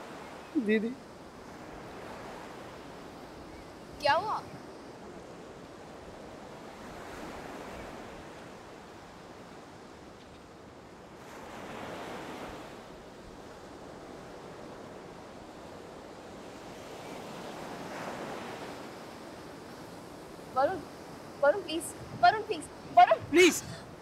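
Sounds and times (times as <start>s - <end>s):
waves washing onto beach: 0.0s - 24.0s.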